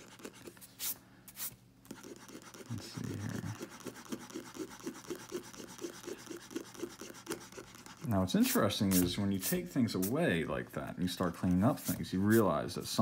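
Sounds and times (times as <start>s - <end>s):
pencil scratching on paper: 0.0s - 10.2s, 11.7s - 12.6s.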